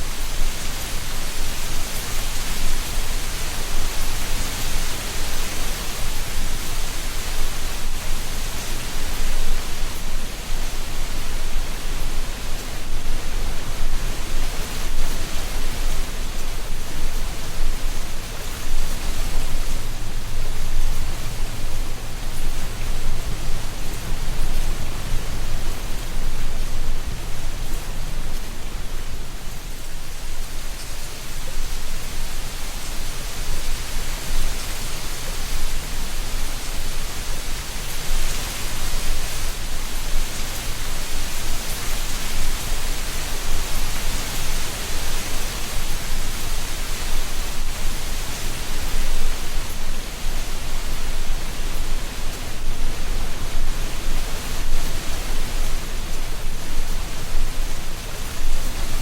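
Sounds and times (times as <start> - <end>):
wind rustling dry leaves: 0.0 - 59.0.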